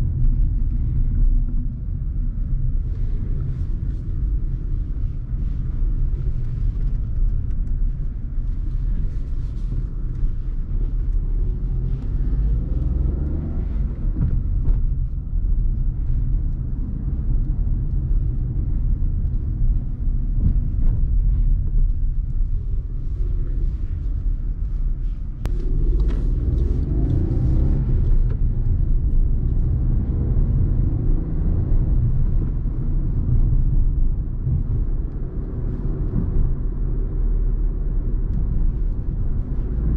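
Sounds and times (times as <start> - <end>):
car engine running: 0.0 - 39.9
tyre and road rumble: 0.0 - 39.9.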